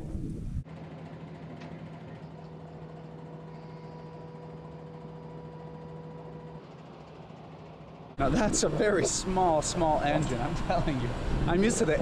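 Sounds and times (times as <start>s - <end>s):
faint constant tones: 0.0s - 12.0s
low mechanical hum: 0.0s - 12.0s.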